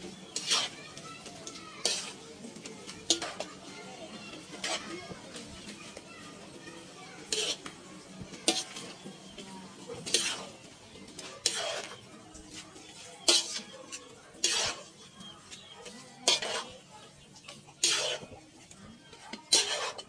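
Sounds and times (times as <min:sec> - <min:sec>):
metal utensils scraping a wok: 0:00.0 - 0:20.0.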